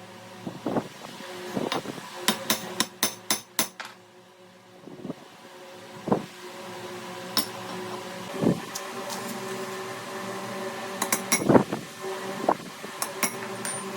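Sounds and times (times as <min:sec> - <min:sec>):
low machine hum: 0:00.0 - 0:13.9.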